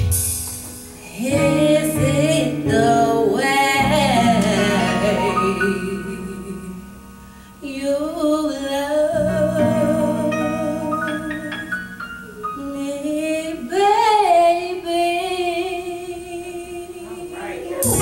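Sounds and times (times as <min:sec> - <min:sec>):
soft low accompaniment: 0:00.0 - 0:18.0
woman singing into a microphone: 0:01.0 - 0:07.0, 0:07.6 - 0:11.7, 0:12.6 - 0:18.0.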